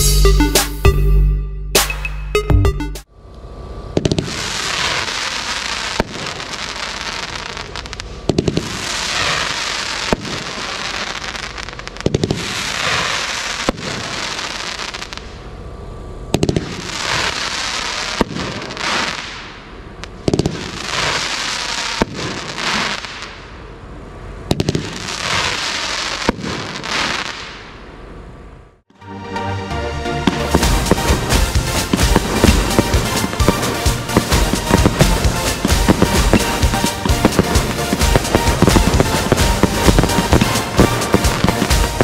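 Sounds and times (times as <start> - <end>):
firework hissing: 3.5 - 27.8, 30.4 - 42.0
firework bangs: 3.9 - 15.6, 16.3 - 27.9, 30.3 - 42.0.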